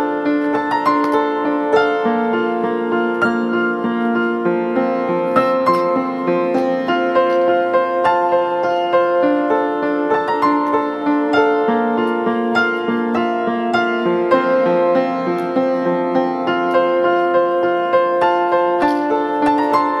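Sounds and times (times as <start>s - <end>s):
gentle keyboard melody: 0.0s - 20.0s.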